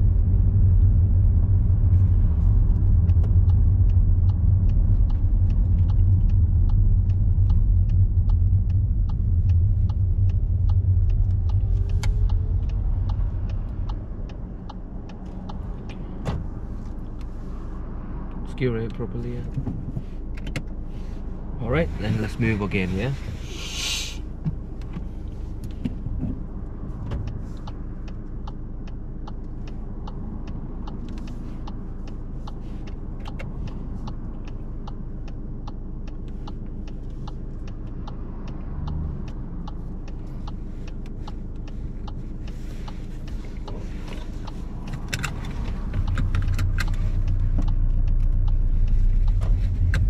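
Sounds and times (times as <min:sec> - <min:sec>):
light ticks: 0:00.0 - 0:21.0, 0:24.2 - 0:50.0
car engine idling: 0:00.0 - 0:50.0
car pulling away: 0:00.0 - 0:50.0.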